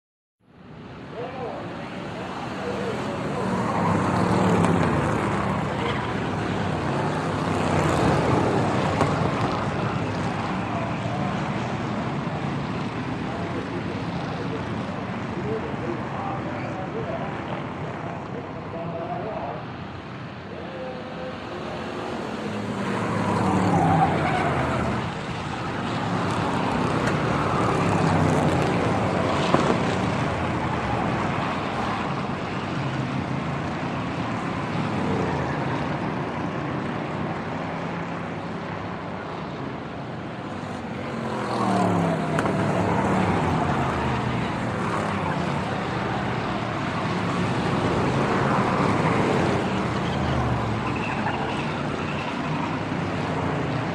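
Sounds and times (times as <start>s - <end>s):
continuous din of engines: 0.4s - 53.9s
racing cars passing at high revs: 1.5s - 18.8s, 19.9s - 53.9s.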